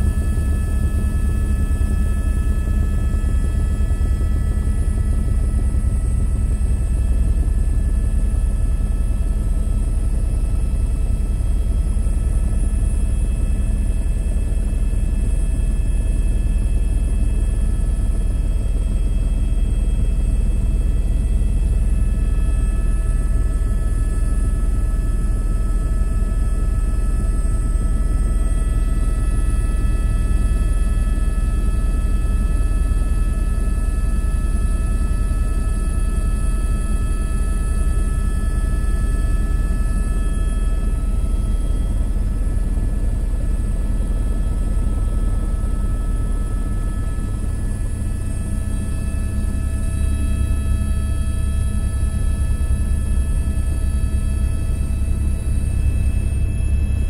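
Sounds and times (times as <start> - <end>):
helicopter rotor rumble: 0.0 - 57.0.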